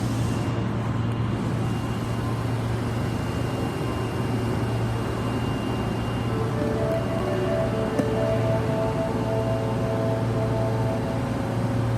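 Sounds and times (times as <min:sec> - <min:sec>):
subway train rumbling: 0:00.0 - 0:11.9.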